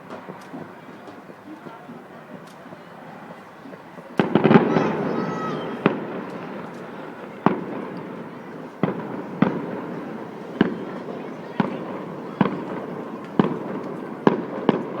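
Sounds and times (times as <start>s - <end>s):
echoing fireworks booms: 0.0s - 15.0s
fireworks bangs: 0.0s - 15.0s
fireworks crackle: 0.0s - 15.0s.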